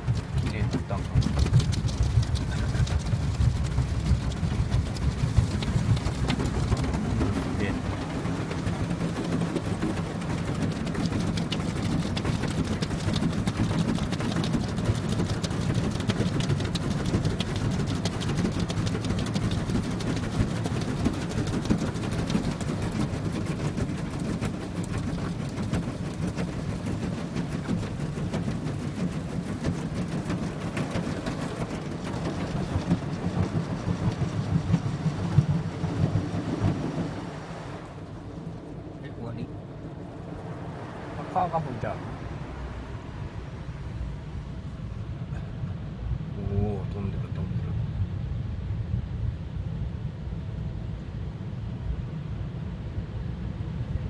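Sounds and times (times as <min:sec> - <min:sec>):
car wash machine rumbling: 0:00.0 - 0:54.0.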